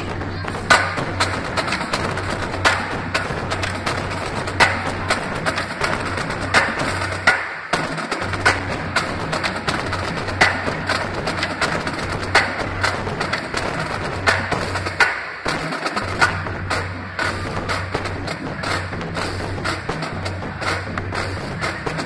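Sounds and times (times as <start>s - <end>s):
marching bass drum: 0.0s - 22.0s
marching drums: 0.0s - 22.0s
pep band playing: 0.0s - 22.0s.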